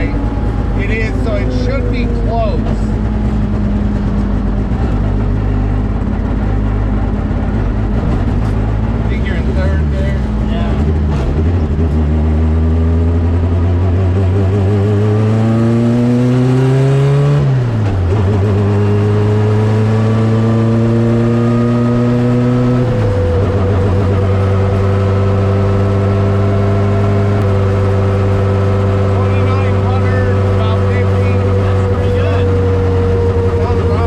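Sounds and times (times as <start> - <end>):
turbocharged car engine accelerating: 0.0 - 34.0.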